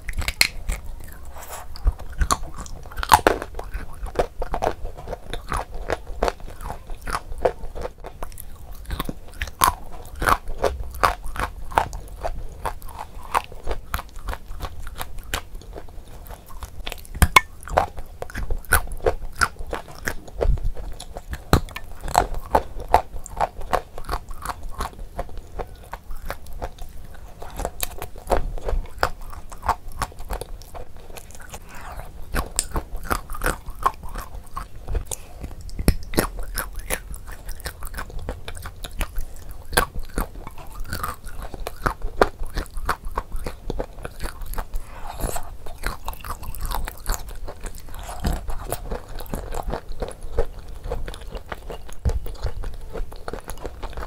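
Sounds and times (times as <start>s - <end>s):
crunching and chewing clay: 0.0s - 54.0s.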